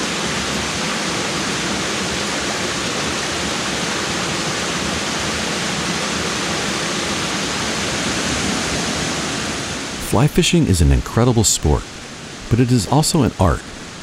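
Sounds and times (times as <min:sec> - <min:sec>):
rushing stream water: 0:00.0 - 0:14.0.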